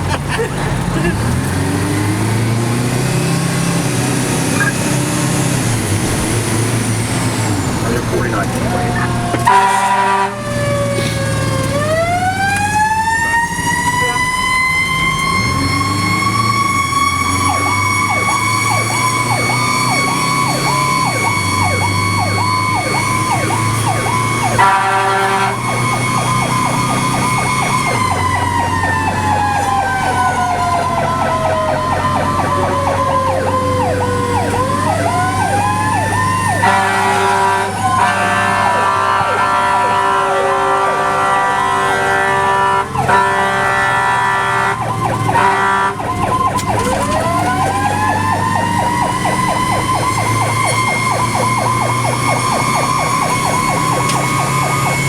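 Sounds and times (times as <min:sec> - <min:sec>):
engine droning: 0:00.0 - 0:55.0
fire engine horn blasts: 0:00.0 - 0:55.0
fire engine siren wailing: 0:00.0 - 0:55.0
rapid pulsing siren: 0:01.7 - 0:55.0.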